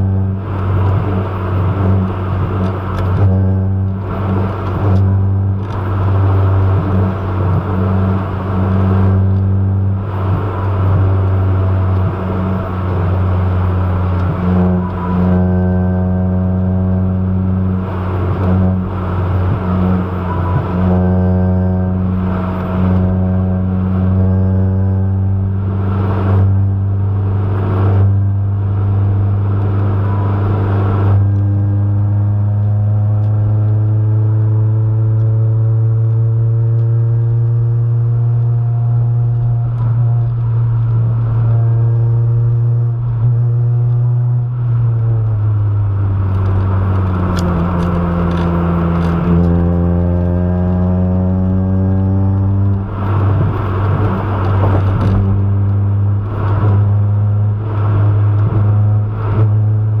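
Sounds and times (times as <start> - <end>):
car engine droning: 0.0 - 60.0
road noise: 0.0 - 60.0.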